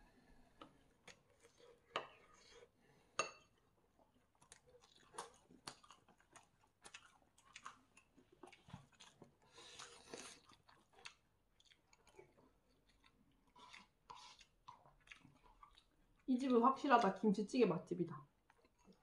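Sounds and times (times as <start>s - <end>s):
person chewing and crunching food: 0.3s - 17.2s, 18.4s - 19.0s.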